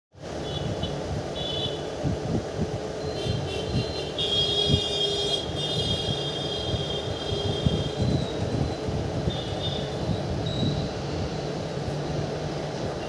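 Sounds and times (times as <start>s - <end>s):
train rumbling: 0.2s - 13.0s.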